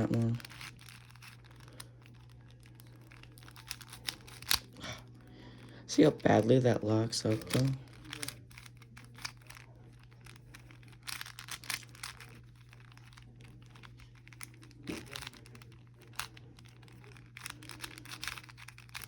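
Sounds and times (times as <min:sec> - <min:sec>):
puzzle cube clicking as twisted: 0:00.0 - 0:04.7, 0:07.3 - 0:19.0.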